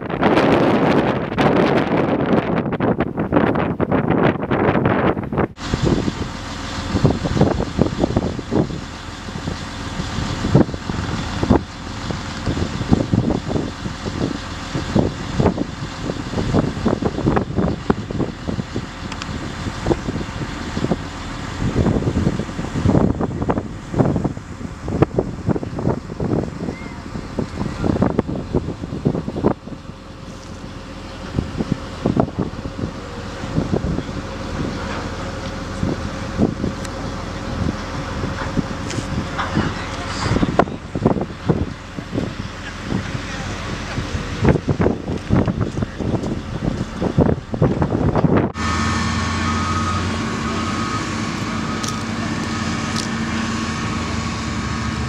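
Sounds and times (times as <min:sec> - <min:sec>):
constant rushing noise: 0:00.0 - 0:55.0
gusty noise: 0:00.0 - 0:55.0
wind buffeting microphone: 0:00.0 - 0:55.0
steady motor hum: 0:05.6 - 0:55.0.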